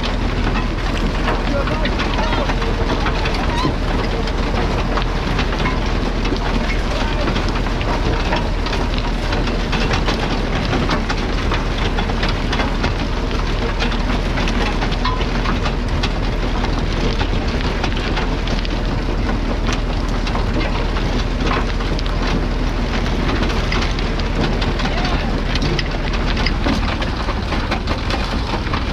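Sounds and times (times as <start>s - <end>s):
potato harvester rattling: 0.0s - 28.9s
tractor engine running: 0.0s - 28.9s.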